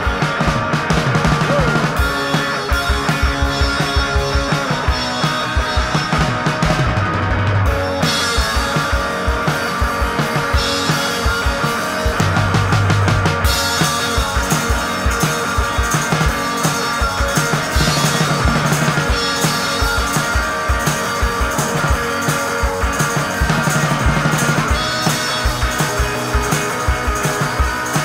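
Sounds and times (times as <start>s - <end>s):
drum kit beat: 0.0s - 28.0s
rock music with guitar: 0.0s - 28.0s.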